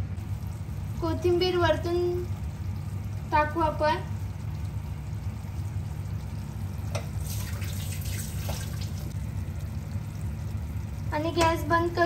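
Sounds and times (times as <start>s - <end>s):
gas stove hum: 0.0s - 12.0s
curry crackling in pan: 0.2s - 12.0s.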